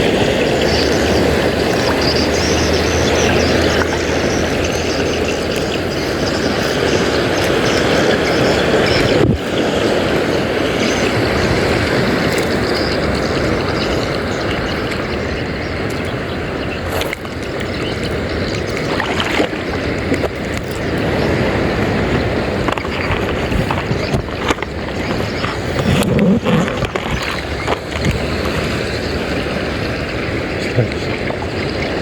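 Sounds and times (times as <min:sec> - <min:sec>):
wind and water rushing: 0:00.0 - 0:32.0.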